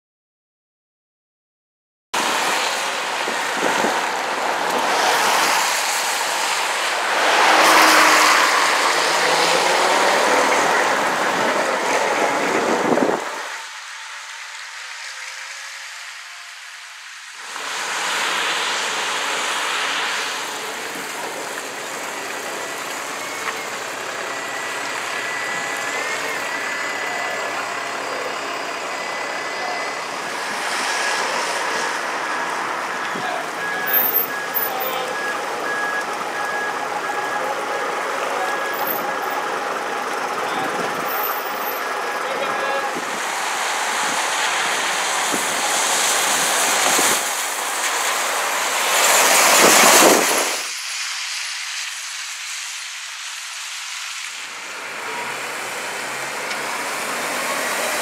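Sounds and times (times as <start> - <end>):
bus engines passing: 2.2 - 58.0
tyres hissing on wet road: 2.2 - 58.0.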